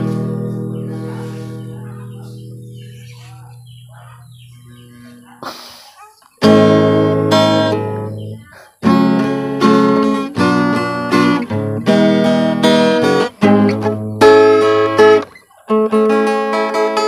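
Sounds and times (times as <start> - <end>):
acoustic guitar strumming chords: 0.0 - 5.1, 6.4 - 17.0.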